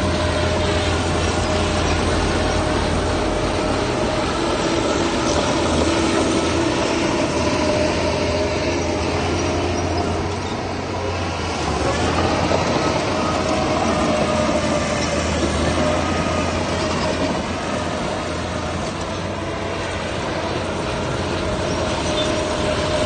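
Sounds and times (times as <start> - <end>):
diesel machinery engine drone: 0.0 - 23.0.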